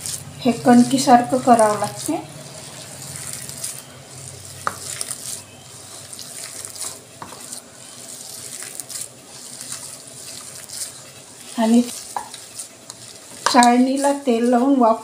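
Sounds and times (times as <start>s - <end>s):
hands kneading wet dough: 0.0s - 15.0s.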